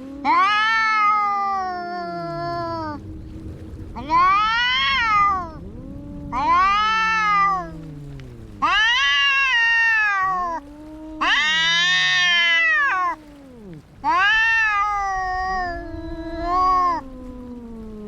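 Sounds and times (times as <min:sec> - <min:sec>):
cat yowling: 0:00.0 - 0:03.0, 0:03.9 - 0:18.0
cat growling: 0:00.0 - 0:18.0.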